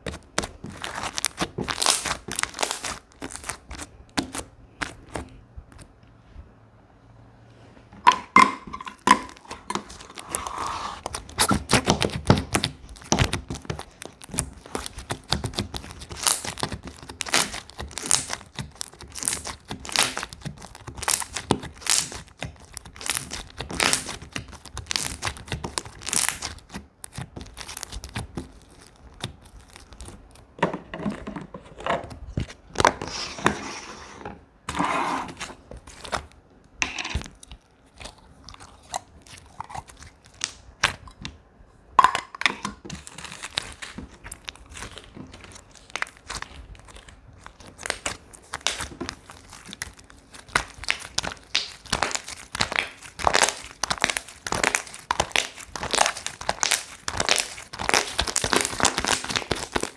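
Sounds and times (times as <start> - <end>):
slime crackling and popping: 0.0 - 5.9, 8.1 - 30.6, 35.3 - 36.4, 37.1 - 41.3, 42.2 - 59.9.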